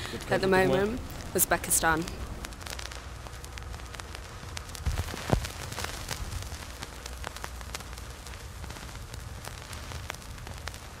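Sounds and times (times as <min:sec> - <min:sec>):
faint crackles and clicks: 0:00.0 - 0:11.0
steady hiss: 0:00.0 - 0:11.0.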